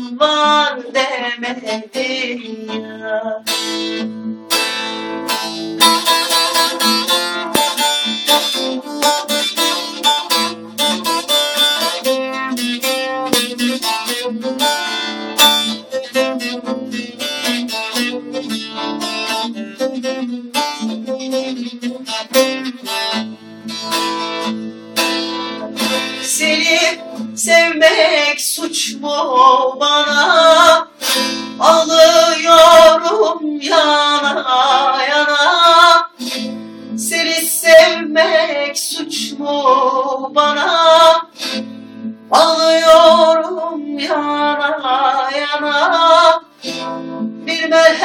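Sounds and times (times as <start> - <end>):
plucked string instrument: 0.0 - 48.0.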